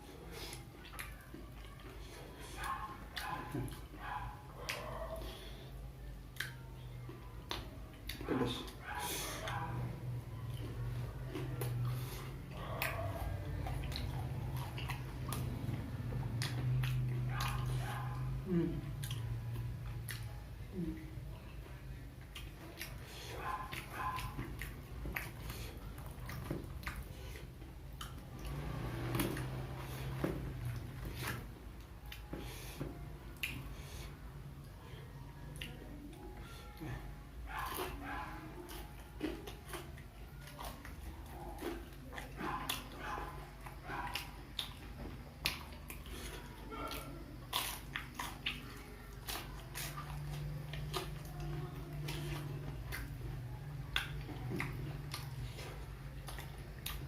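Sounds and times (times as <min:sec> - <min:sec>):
wet chewing: 0:00.0 - 0:34.8, 0:35.4 - 0:57.0.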